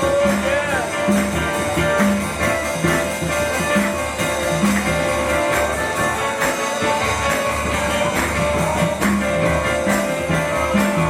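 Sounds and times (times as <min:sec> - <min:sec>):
bass beat: 0:00.0 - 0:11.0
instrumental guitar music: 0:00.0 - 0:11.0.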